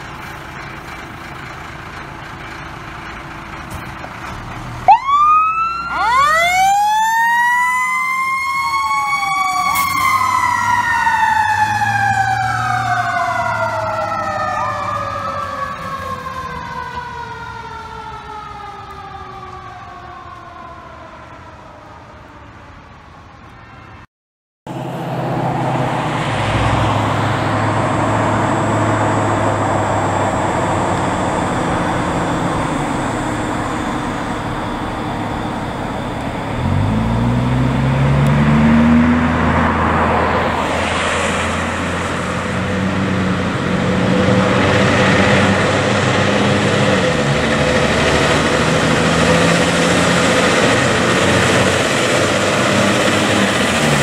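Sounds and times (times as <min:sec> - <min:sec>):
fire truck engine revving: 0:00.0 - 0:21.9, 0:24.7 - 0:54.0.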